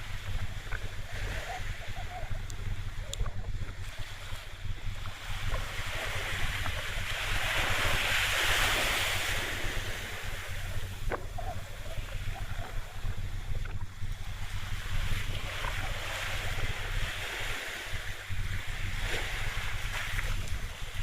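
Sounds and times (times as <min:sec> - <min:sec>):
low rumble: 0:00.0 - 0:21.0
waves washing: 0:00.0 - 0:21.0
wind buffeting microphone: 0:00.0 - 0:21.0.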